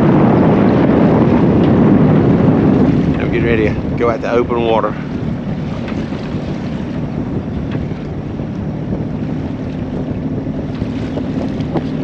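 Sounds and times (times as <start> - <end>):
boat engine running: 0.0 - 12.0
wind noise on microphone: 0.0 - 12.0.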